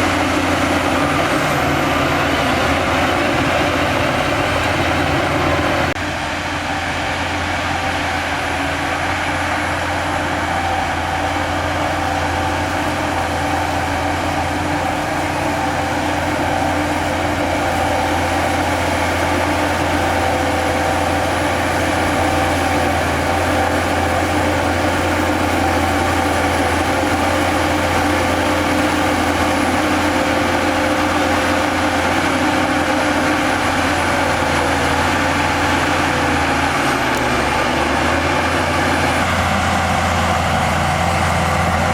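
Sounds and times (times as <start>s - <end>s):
heavy diesel engine under load: 0.0s - 41.9s
machine whining: 0.0s - 41.9s.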